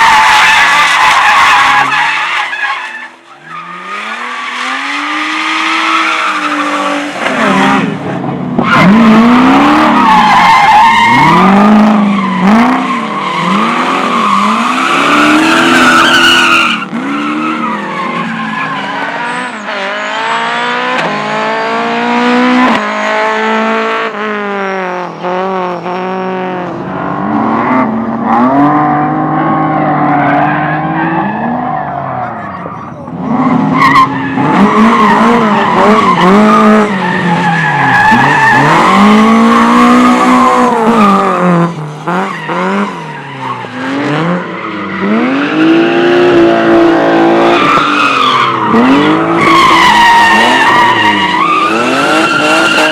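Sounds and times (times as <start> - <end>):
car engine revving: 3.5 - 52.9.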